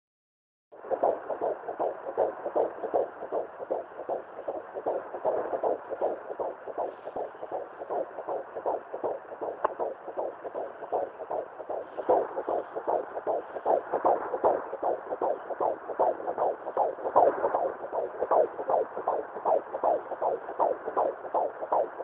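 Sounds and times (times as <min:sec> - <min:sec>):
fetal heartbeat whooshing pulse: 0:00.8 - 0:22.0.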